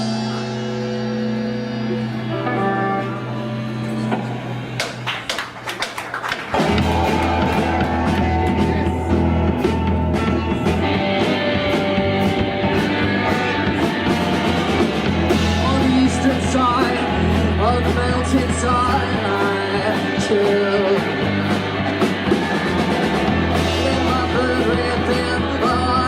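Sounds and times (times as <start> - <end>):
live rock band playing: 0.0 - 5.2, 6.3 - 26.0.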